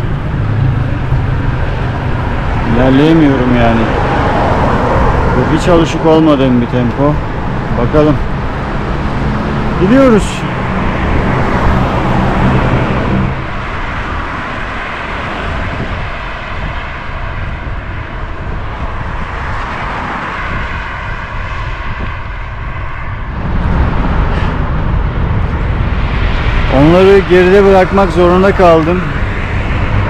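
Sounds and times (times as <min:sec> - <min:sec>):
faint vehicle whine: 0:00.0 - 0:30.0
rushing road noise: 0:00.0 - 0:30.0
traffic passing: 0:00.0 - 0:30.0.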